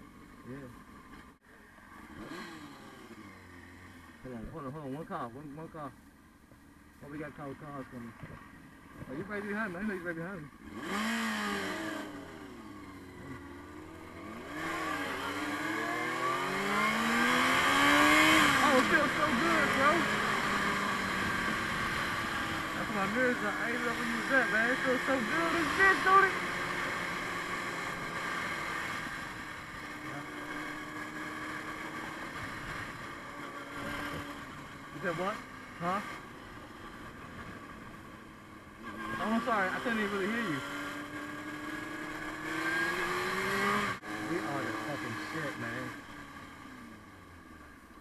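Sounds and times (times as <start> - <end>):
motorcycle engine accelerating: 0.0 - 5.9, 7.0 - 48.0.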